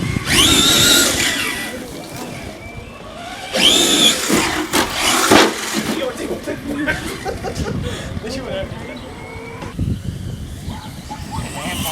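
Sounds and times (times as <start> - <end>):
electric motor whining: 0.0 - 6.0, 6.9 - 11.9.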